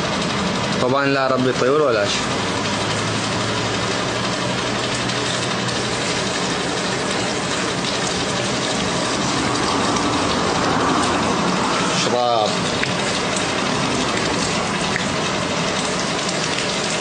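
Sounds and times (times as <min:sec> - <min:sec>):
low motor hum: 0:00.0 - 0:17.0
hose water spraying on concrete: 0:01.4 - 0:17.0.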